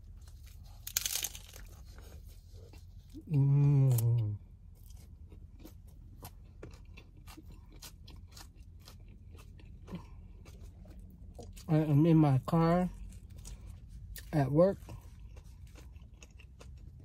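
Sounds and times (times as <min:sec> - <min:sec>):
person chewing crunchy taco: 0:00.0 - 0:17.0.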